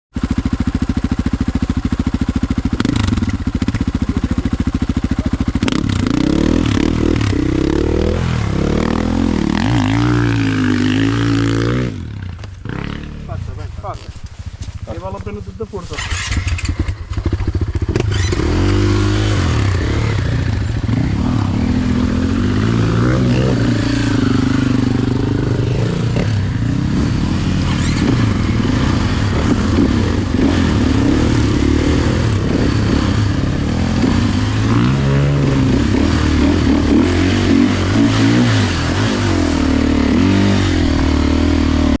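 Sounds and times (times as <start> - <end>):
dirt bike engine revving: 0.2 - 42.0.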